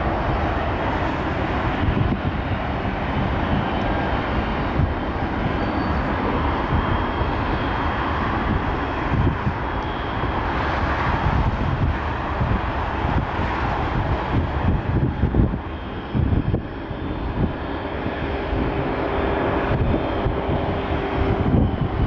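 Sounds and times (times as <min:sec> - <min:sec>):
jet engine roar with whine: 0:00.0 - 0:22.0
wind on microphone: 0:00.0 - 0:22.0.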